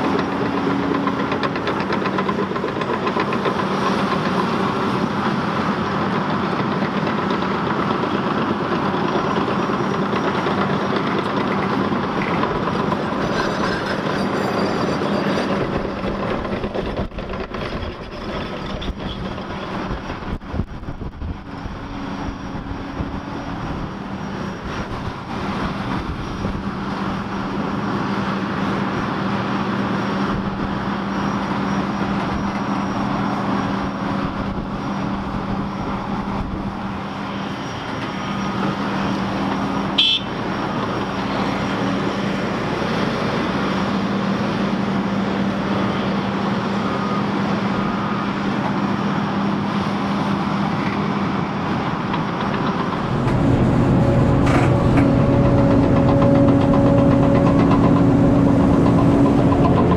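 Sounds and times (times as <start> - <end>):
heavy diesel engines under load: 0.0 - 59.9.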